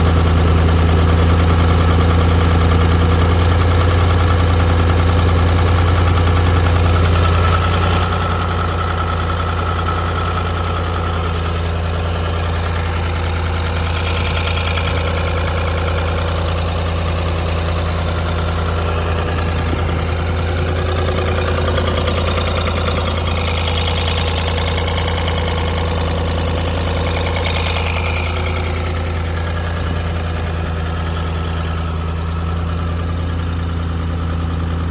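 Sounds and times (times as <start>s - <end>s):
supercharged car engine idling: 0.0s - 34.9s.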